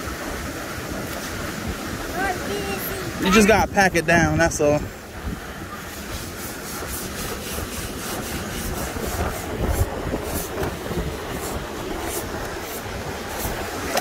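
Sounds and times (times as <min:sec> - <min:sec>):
ocean surf: 0:00.0 - 0:14.0
wind buffeting microphone: 0:00.0 - 0:14.0.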